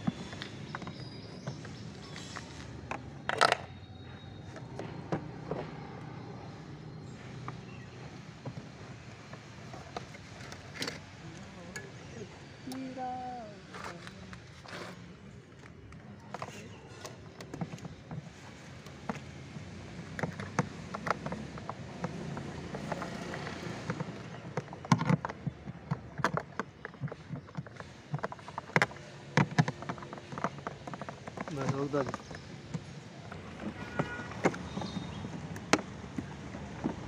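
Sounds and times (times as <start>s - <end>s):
tools clicking and knocking: 0.0s - 12.0s, 15.6s - 37.0s.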